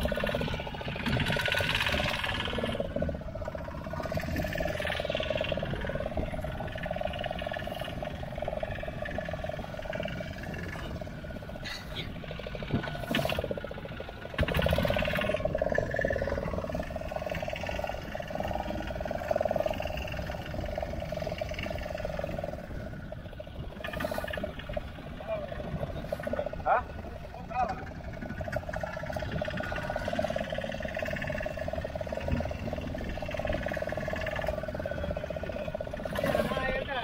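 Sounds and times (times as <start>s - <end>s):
boat engine droning: 0.0s - 37.0s
water rumble: 0.0s - 37.0s
wind: 0.0s - 37.0s.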